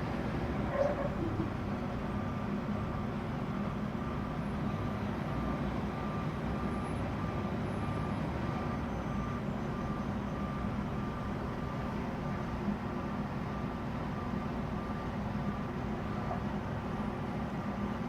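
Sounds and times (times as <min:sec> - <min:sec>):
truck reversing alarm beeping: 0:00.6 - 0:18.0.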